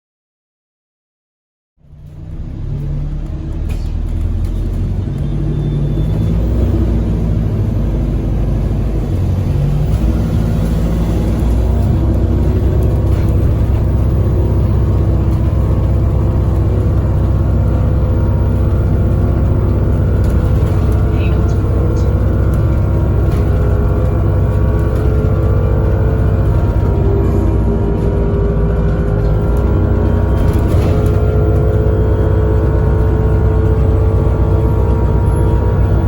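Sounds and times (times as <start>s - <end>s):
bus engine droning: 1.8s - 36.0s.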